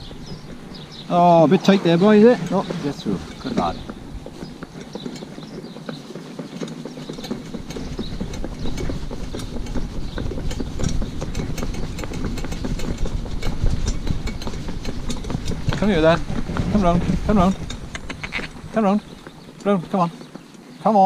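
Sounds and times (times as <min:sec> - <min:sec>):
pony cart rattling: 0:00.0 - 0:21.0.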